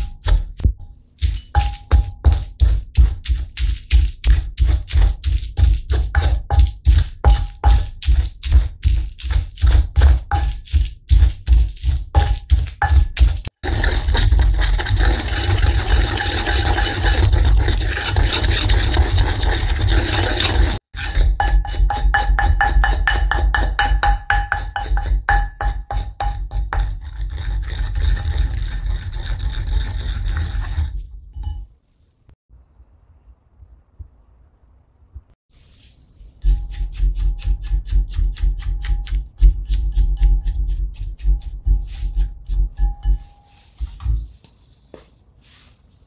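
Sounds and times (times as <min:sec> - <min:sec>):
pestle grinding in ceramic mortar: 0:00.0 - 0:31.6, 0:36.4 - 0:43.4.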